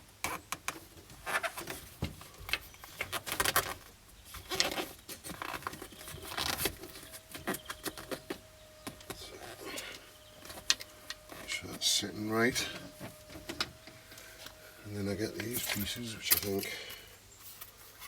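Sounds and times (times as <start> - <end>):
faint steady hum: 0.0 - 18.0
rustling: 0.2 - 18.0
scraping: 3.0 - 17.7.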